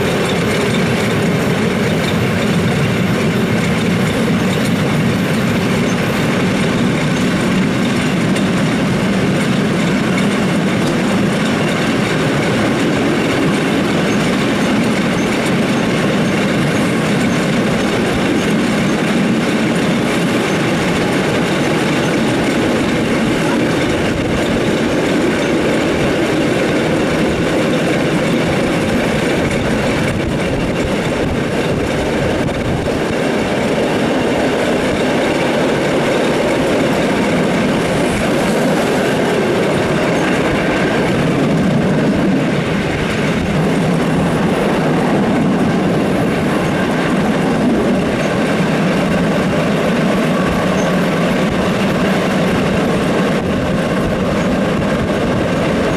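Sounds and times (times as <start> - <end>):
train wheels rolling on rails: 0.0 - 55.9.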